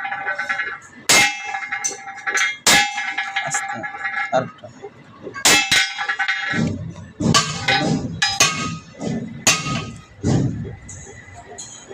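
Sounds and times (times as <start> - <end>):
hammer clanging on metal: 0.0 - 4.4, 5.4 - 11.9.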